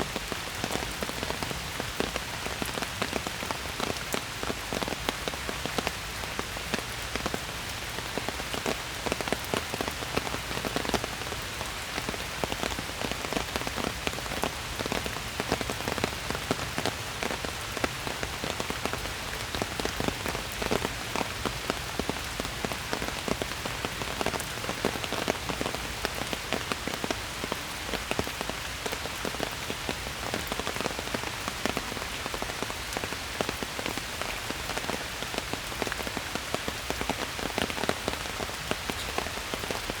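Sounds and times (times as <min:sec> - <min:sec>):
rain falling in a forest: 0:00.0 - 0:40.0.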